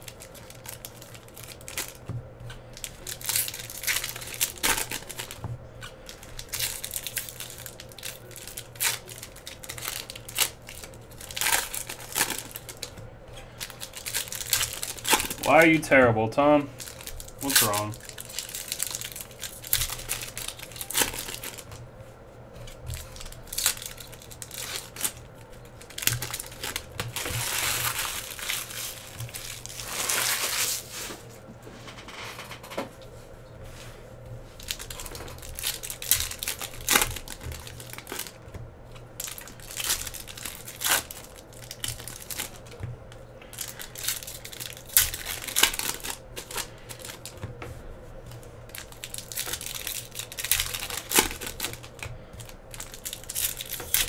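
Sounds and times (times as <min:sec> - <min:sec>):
foil wrappers crinkling and tearing: 0:00.0 - 0:15.8, 0:16.6 - 0:21.8, 0:22.6 - 0:31.3, 0:34.5 - 0:47.5, 0:48.4 - 0:54.0.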